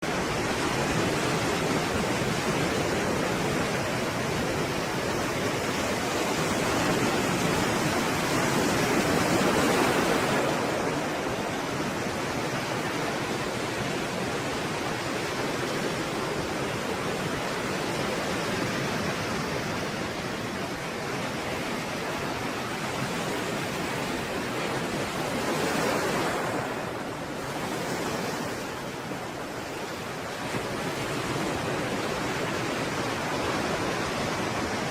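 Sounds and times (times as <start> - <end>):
stormy sea waves: 0.0 - 34.9.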